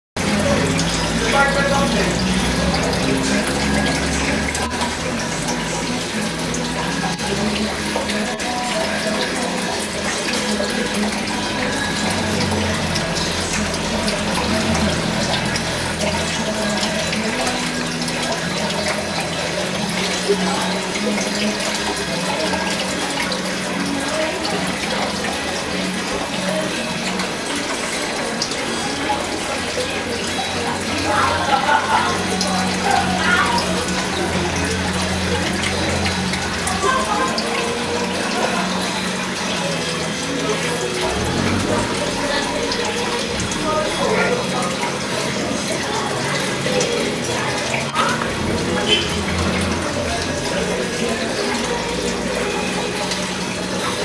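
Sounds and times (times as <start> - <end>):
aquarium water bubbling and splashing: 0.2 - 54.0.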